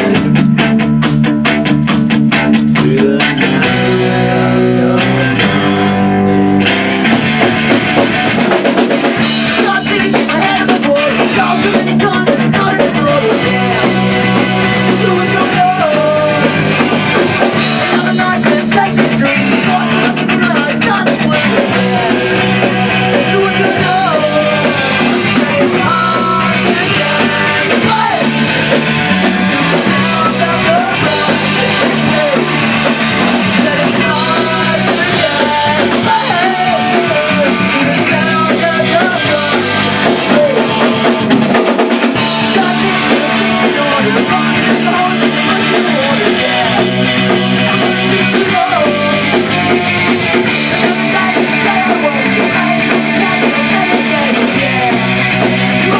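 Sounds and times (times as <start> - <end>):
drum kit: 0.0 - 55.9
electric guitar: 0.0 - 55.9
person singing: 2.7 - 55.9.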